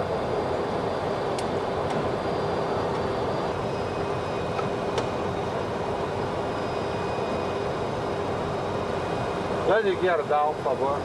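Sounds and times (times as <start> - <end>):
airflow and engine noise: 0.0 - 11.0.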